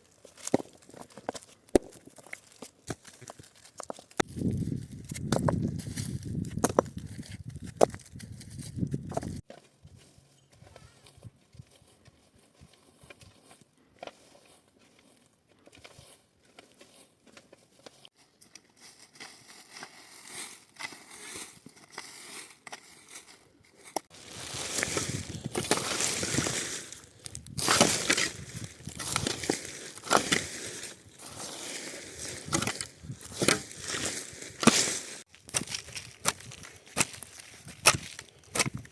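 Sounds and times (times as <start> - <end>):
crunching and crackling: 0.0 - 38.9.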